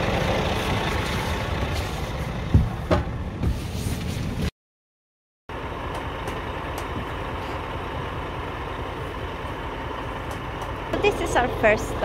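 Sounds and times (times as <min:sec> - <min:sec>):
diesel truck engine idling: 0:00.0 - 0:03.4, 0:05.5 - 0:12.0.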